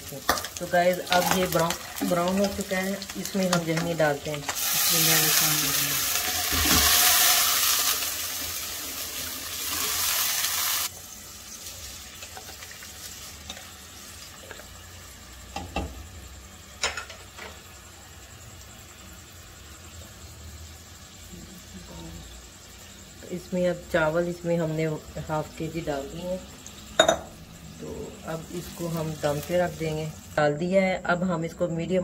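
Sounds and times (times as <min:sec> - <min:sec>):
stock sizzling in hot fat: 0:00.0 - 0:30.4.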